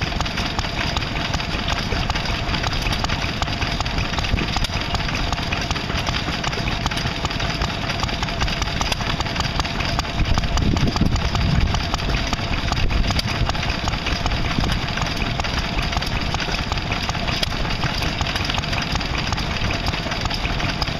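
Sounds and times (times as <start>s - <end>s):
stationary engine idling: 0.0s - 20.9s.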